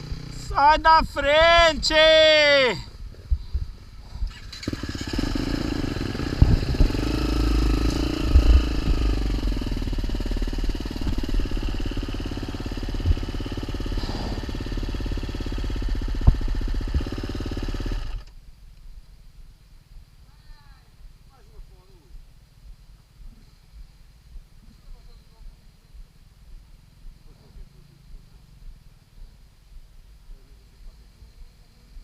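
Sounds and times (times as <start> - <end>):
motorcycle engine running: 0.0 - 18.3, 19.9 - 32.0.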